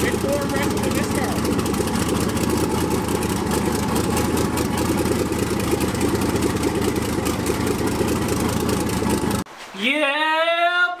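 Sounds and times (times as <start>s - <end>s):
car engine idling loudly: 0.0s - 9.5s.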